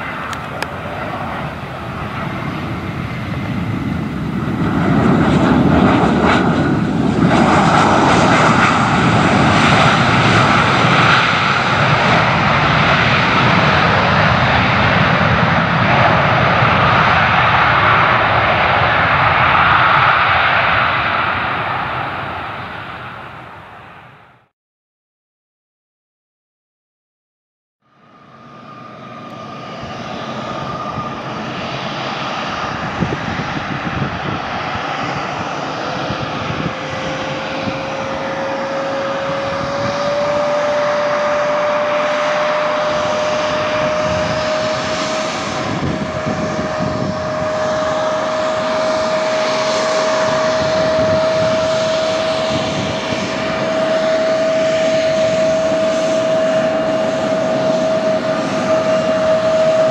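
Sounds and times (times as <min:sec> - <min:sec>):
jet engines rushing: 0:00.0 - 0:24.4, 0:28.0 - 0:59.9
jet engine whine: 0:00.0 - 0:24.5, 0:27.8 - 0:59.9.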